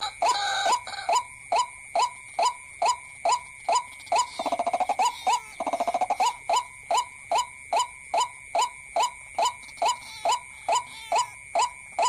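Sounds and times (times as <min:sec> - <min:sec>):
bird calls: 0:00.0 - 0:11.8.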